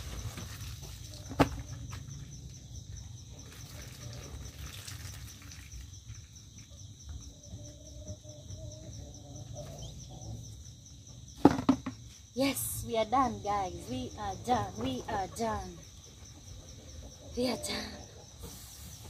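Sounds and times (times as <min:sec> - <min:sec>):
pulsing insect trill: 0:00.0 - 0:19.0.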